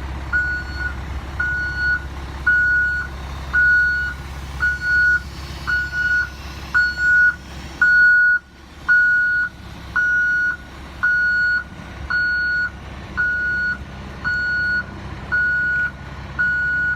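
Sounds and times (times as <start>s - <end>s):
bus engine running: 0.0s - 16.9s
vehicle backup alarm beeping: 0.3s - 16.9s.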